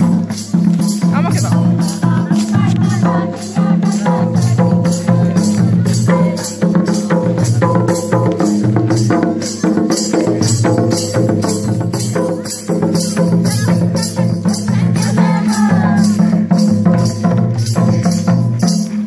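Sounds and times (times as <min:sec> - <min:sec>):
barrel drums beating a rhythm: 0:00.0 - 0:19.0.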